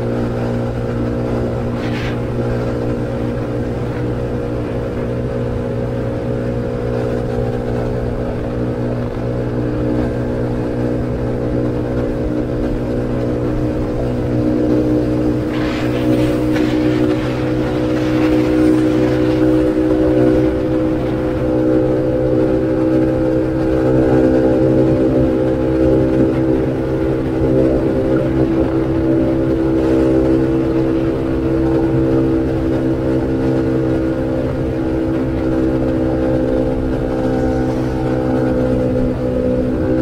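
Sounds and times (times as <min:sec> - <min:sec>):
scooter engine running: 0:00.0 - 0:40.0.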